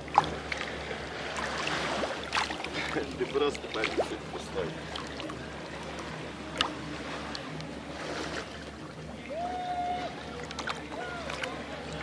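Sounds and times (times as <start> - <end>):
seawater sloshing around legs: 0.0 - 12.0.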